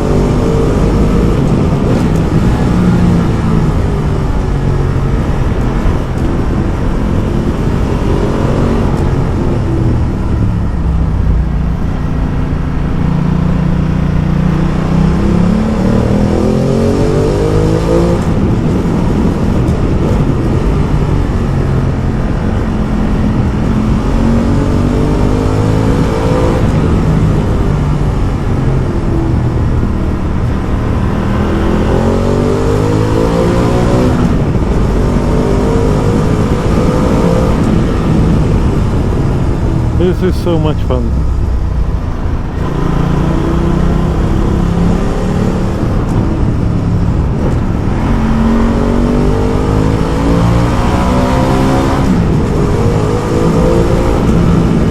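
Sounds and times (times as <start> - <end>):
motorcycle engine accelerating: 0.0 - 54.9
wind noise: 0.0 - 54.9.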